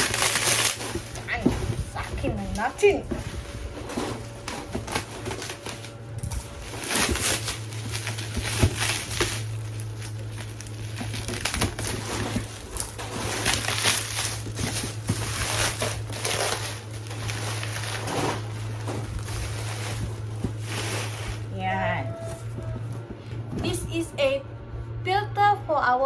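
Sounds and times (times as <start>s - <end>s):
plastic packaging crinkling: 0.0s - 23.4s
steady low hum: 0.0s - 26.0s.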